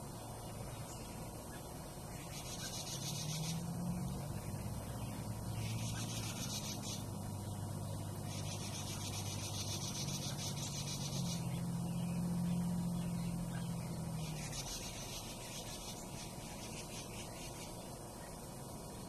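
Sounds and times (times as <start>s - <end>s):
bird rasping buzzes: 0.0s - 19.0s
steady low hum: 0.0s - 19.0s.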